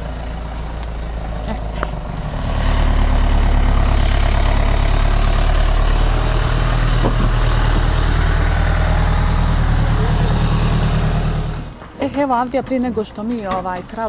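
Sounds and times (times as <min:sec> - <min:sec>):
van engine idling: 0:00.0 - 0:11.8.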